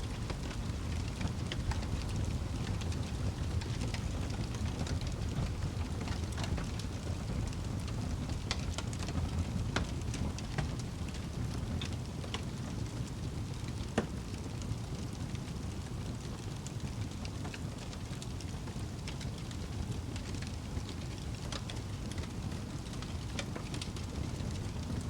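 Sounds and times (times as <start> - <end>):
fire popping: 0.0 - 25.0
wood fire crackling: 0.0 - 25.0.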